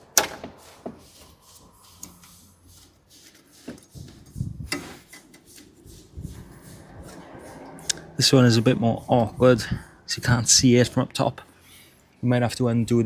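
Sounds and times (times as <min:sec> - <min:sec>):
gloved hands rubbing hoses: 0:00.3 - 0:11.6.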